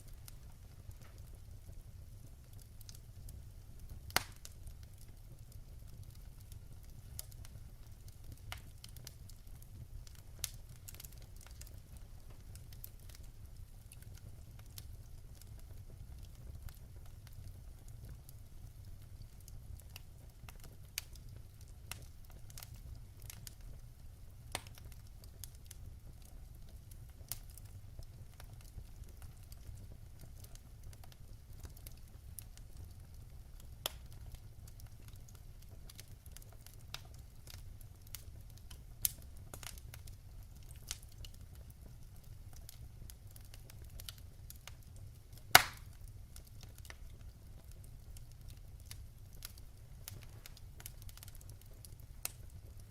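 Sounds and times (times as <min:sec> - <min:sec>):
fireplace fire crackling: 0:00.0 - 0:52.9.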